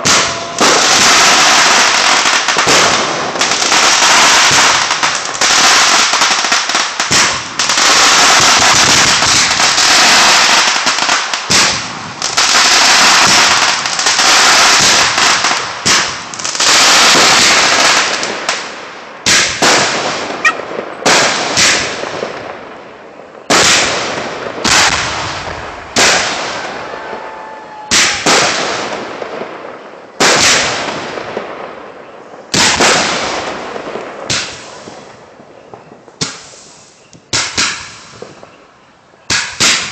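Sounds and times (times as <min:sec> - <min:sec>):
fireworks crackling barrage: 0:00.0 - 0:39.9.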